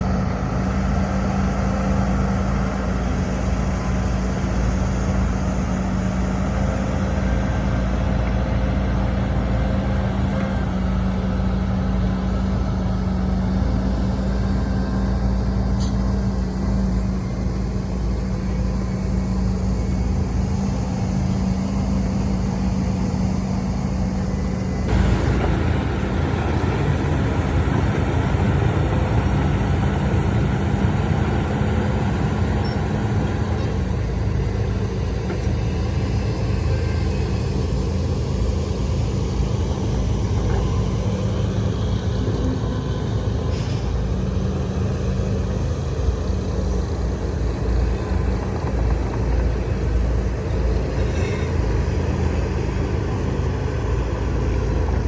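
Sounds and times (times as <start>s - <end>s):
heavy diesel machinery rumbling: 0.0s - 55.0s.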